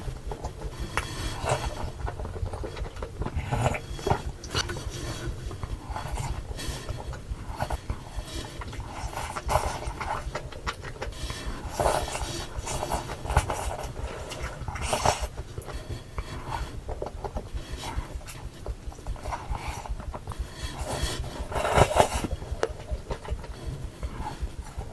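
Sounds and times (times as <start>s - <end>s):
slurping: 0.0s - 24.9s
wet chewing and mouth clicks: 0.0s - 24.9s.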